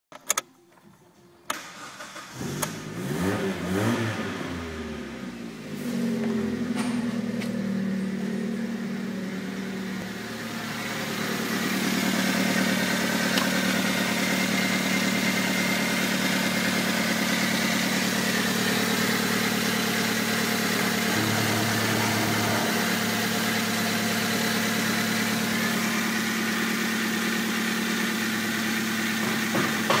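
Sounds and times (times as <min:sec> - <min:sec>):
car engine starting and idling: 0:01.5 - 0:30.0.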